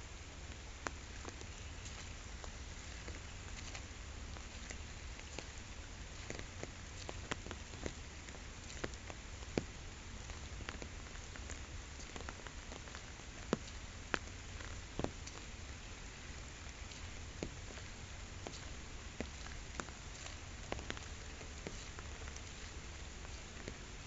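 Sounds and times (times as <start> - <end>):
rain falling on a pond: 0.0 - 24.0.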